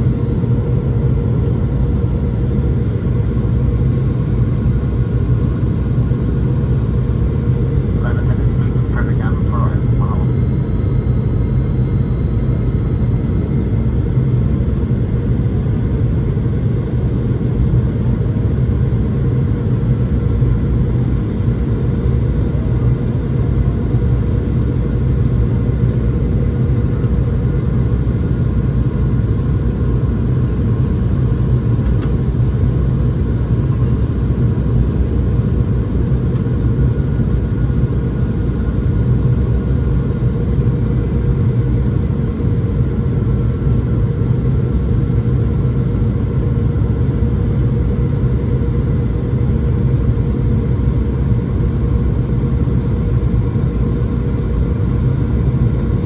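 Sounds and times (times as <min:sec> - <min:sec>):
aircraft cabin engine rumble: 0:00.0 - 0:56.0
faint jet engine whine: 0:00.0 - 0:56.0.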